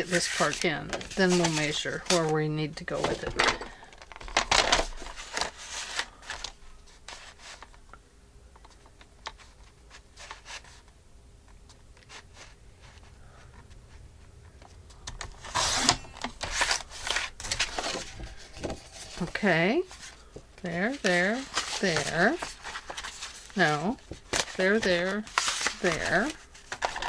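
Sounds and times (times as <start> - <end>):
paper rustling and creasing: 0.0 - 7.8, 8.6 - 11.0, 11.7 - 27.0
faint steady hum: 0.0 - 27.0.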